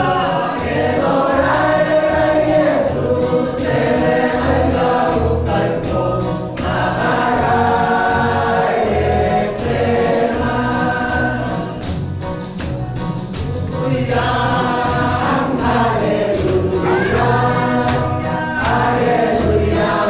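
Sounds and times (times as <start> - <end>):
group singing in chorus: 0.0 - 12.2, 13.5 - 20.0.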